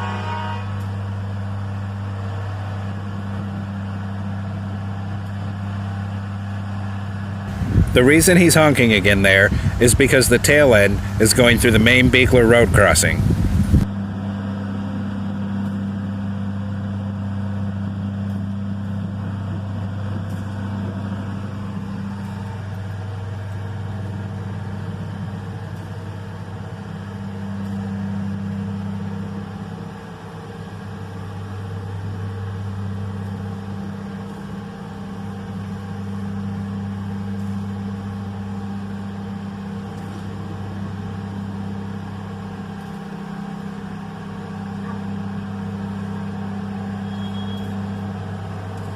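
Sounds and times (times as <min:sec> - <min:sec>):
train diesel engines humming: 0:00.0 - 0:48.9.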